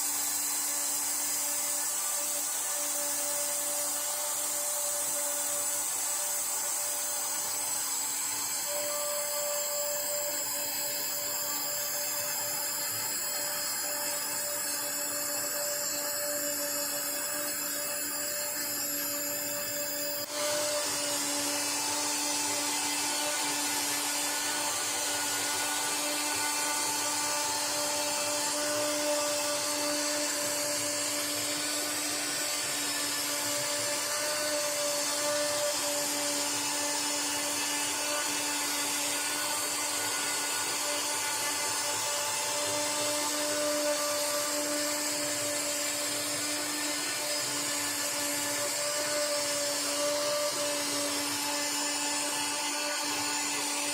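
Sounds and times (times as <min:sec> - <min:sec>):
router spindle whining cutting wood: 0:00.0 - 0:53.9.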